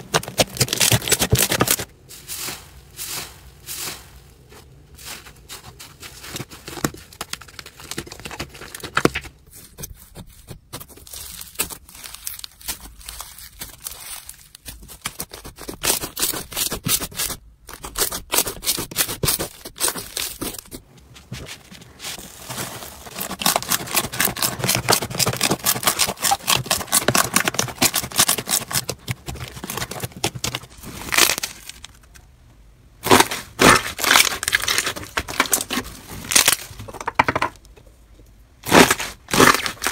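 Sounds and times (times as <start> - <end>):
hands squishing crunchy slime: 0.0 - 32.2, 33.0 - 36.8, 38.6 - 39.9.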